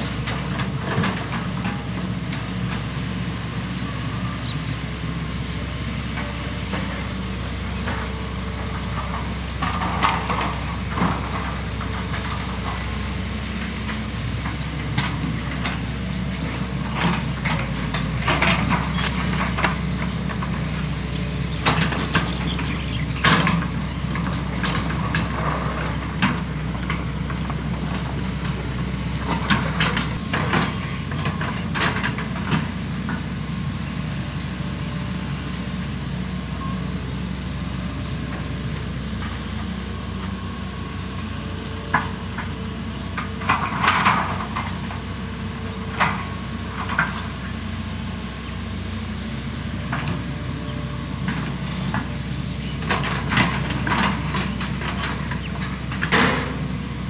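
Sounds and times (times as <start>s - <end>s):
excavator diesel engines running: 0.0s - 57.0s
squeaks and knocks of excavator buckets: 0.1s - 57.0s.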